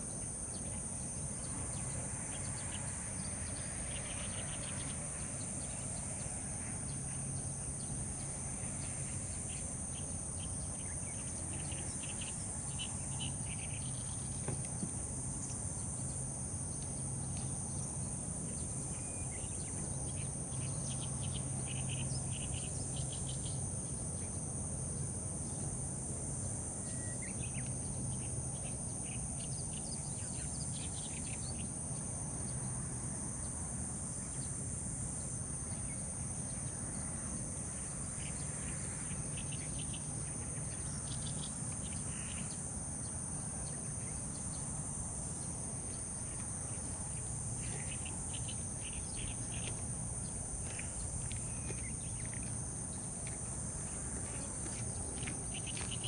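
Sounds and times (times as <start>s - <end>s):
faint low hum: 0.0s - 56.0s
high-pitched insect trill: 0.0s - 56.0s.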